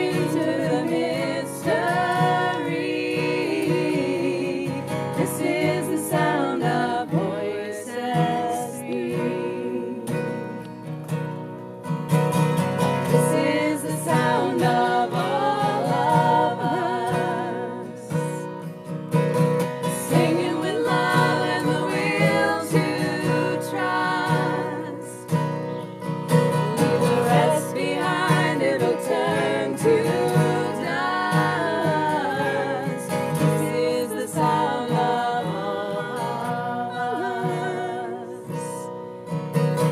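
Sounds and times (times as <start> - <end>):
women singing in harmony: 0.0 - 11.0, 12.8 - 18.7, 19.6 - 39.1
acoustic guitar: 0.0 - 39.9.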